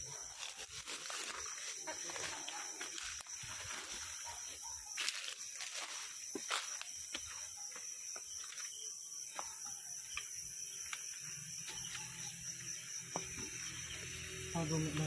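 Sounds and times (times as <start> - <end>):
night insects chorus: 0.0 - 15.0.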